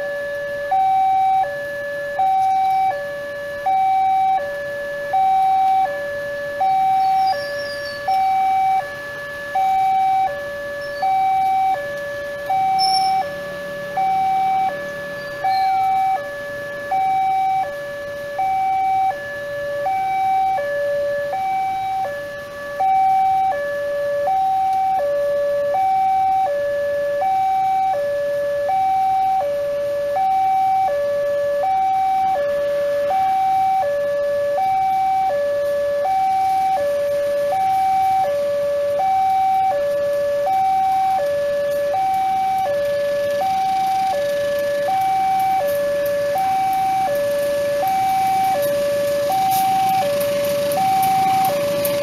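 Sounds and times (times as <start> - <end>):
two-tone crossing alarm: 0.0 - 52.0.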